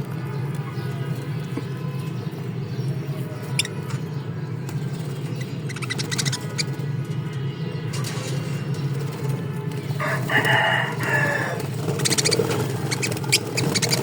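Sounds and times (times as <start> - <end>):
cage birds squeaky chirps: 0.0 - 14.0.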